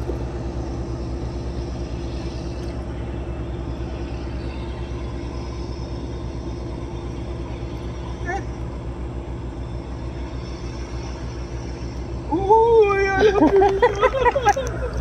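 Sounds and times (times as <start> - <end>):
engine droning steadily: 0.0 - 15.0.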